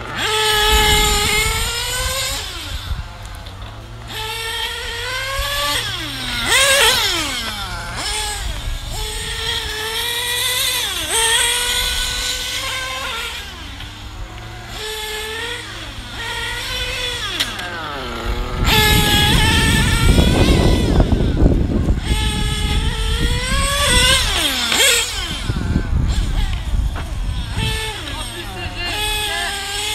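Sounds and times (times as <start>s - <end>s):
model car nitro engines revving: 0.0s - 29.9s.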